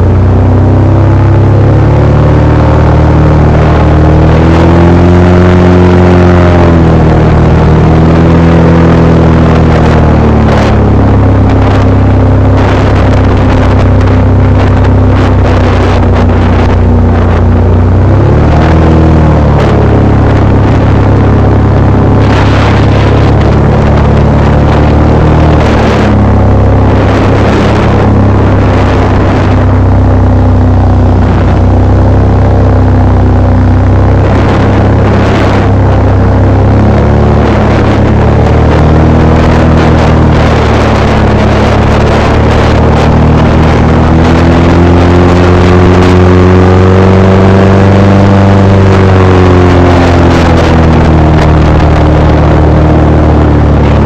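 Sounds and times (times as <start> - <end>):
airboat engine and propeller roaring: 0.0 - 54.0.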